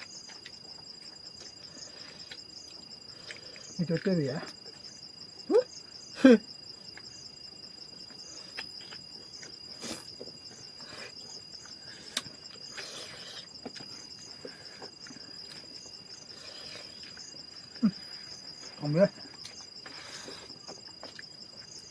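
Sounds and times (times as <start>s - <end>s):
insects trilling: 0.0s - 21.9s.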